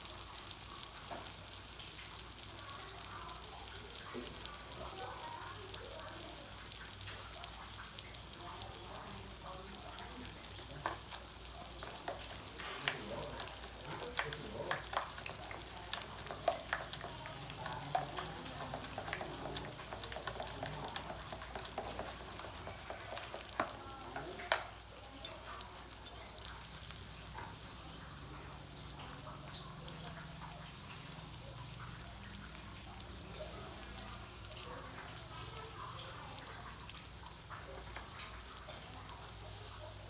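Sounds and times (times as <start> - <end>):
batter sizzling in hot oil: 0.0 - 40.0
oil popping and crackling: 0.0 - 40.0.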